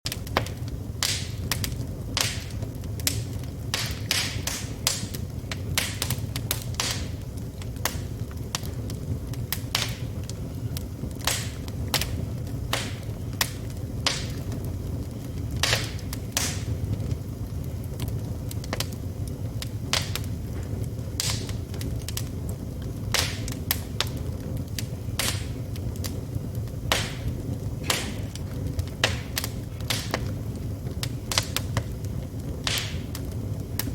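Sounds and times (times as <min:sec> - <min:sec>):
fire crackling and popping: 0:00.0 - 0:33.9
low rumble of flames: 0:00.0 - 0:33.9.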